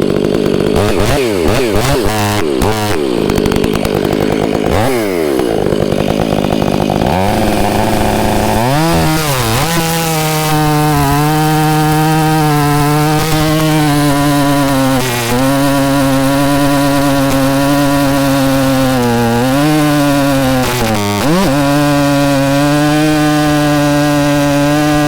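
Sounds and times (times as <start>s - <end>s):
chainsaw revving and cutting: 0.0s - 25.0s.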